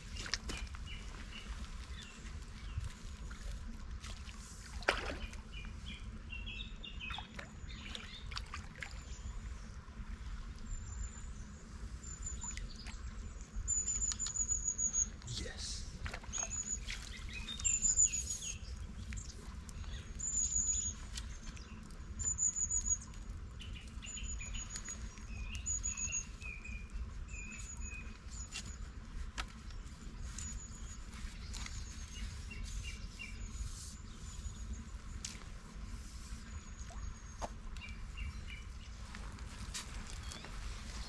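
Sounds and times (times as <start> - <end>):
low steady background noise: 0.0 - 41.0
small birds chirping and trilling: 5.0 - 9.7, 10.6 - 39.2, 39.8 - 41.0.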